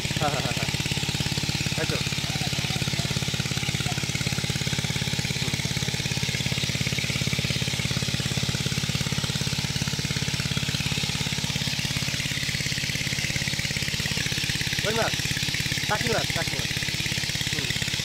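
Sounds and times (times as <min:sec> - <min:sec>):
small engine chugging: 0:00.0 - 0:18.0.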